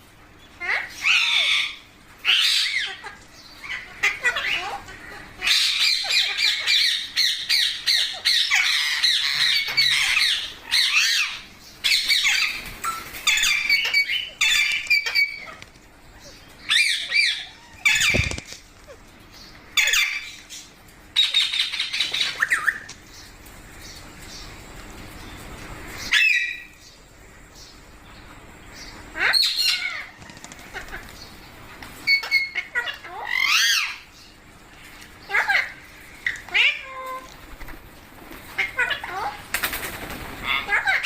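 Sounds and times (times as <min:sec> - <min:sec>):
parrots squawking and chattering: 0:00.4 - 0:27.4, 0:28.6 - 0:41.0.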